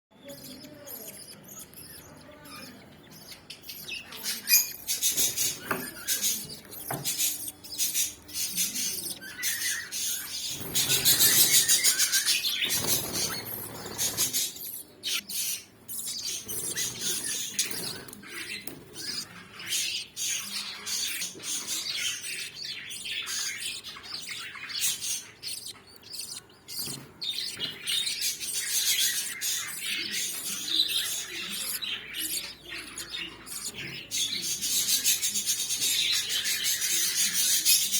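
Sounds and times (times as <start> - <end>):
budgerigars chirping: 0.2 - 37.9.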